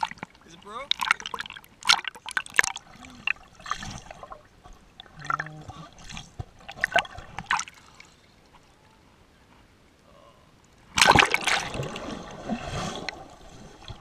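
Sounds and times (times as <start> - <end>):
pool water splashing: 0.0 - 9.0, 10.8 - 14.0.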